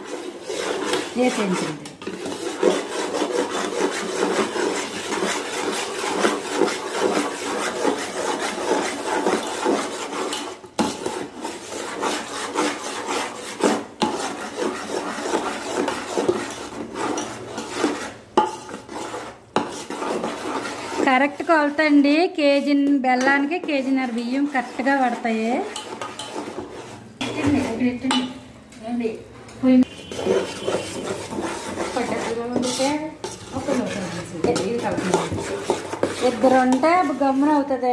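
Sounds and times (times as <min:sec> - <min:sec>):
metal spoon scraping pot: 0:00.0 - 0:28.4, 0:29.8 - 0:37.9.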